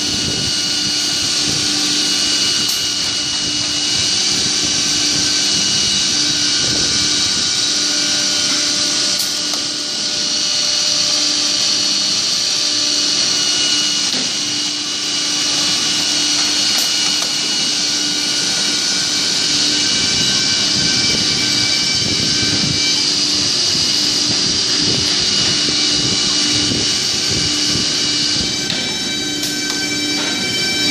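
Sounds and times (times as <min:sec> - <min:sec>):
router spindle cutting wood: 0:00.0 - 0:30.9.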